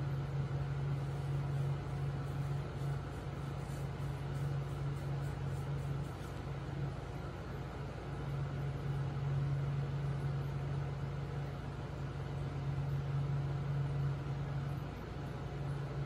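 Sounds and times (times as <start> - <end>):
aquarium pump humming: 0.0 - 16.0.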